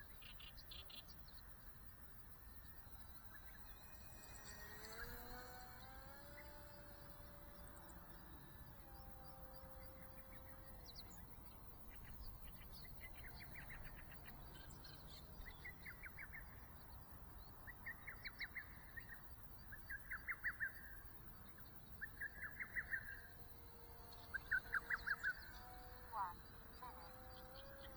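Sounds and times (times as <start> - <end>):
bird singing rapid trills: 0.0 - 27.9
faint outdoor background: 0.0 - 27.9.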